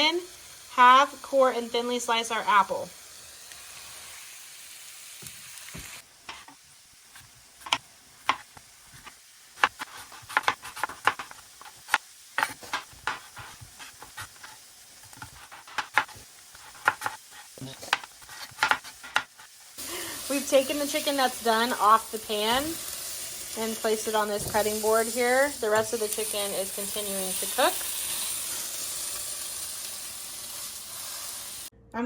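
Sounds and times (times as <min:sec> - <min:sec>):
cutlets sizzling in hot oil: 0:00.0 - 0:31.7.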